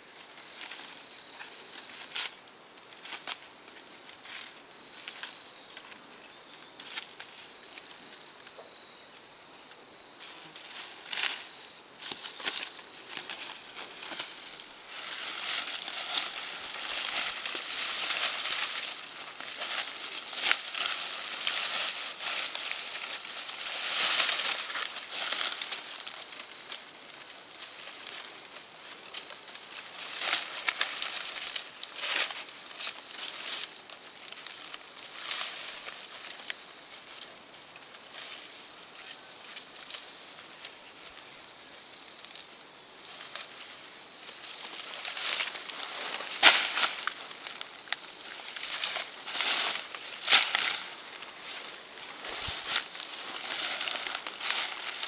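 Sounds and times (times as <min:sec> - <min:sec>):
steady high-pitched hiss: 0:00.0 - 0:55.0
rustles and crackles: 0:00.2 - 0:08.7, 0:10.1 - 0:55.0.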